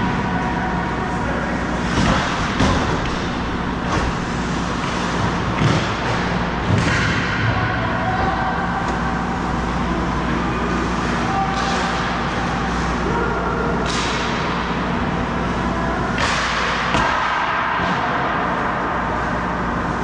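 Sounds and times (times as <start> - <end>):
low rink hum: 0.0 - 20.0.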